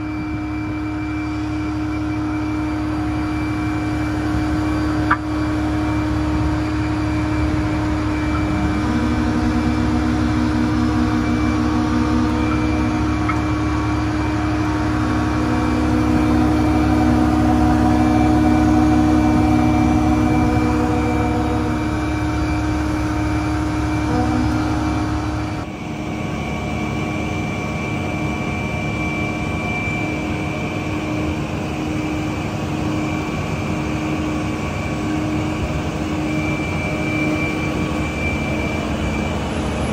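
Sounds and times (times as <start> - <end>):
hydraulic tone: 0.0 - 25.8, 26.6 - 39.9
fire truck engine running: 0.0 - 39.9.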